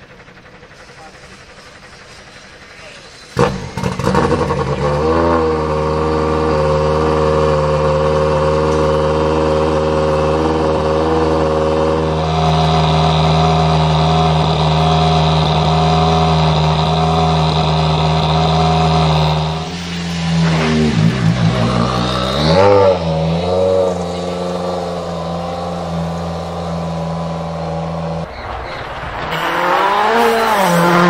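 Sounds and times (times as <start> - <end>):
rally car engine running loud: 0.0 - 31.0.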